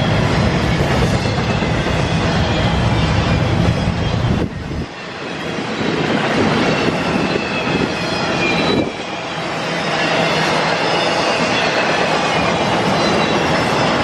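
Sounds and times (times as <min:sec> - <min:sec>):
high wheel squeal: 0:00.0 - 0:14.0
train wheels rushing on rail: 0:00.0 - 0:14.0.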